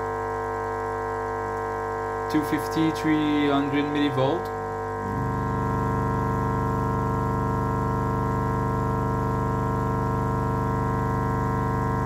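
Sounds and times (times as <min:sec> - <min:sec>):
speaker low buzzing hum: 0:00.0 - 0:12.0.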